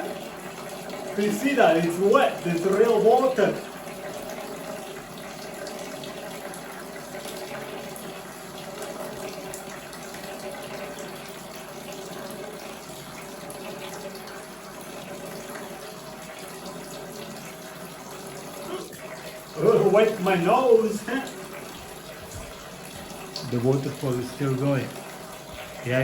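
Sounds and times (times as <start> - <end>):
water stream splashing into bowl: 0.0 - 26.0.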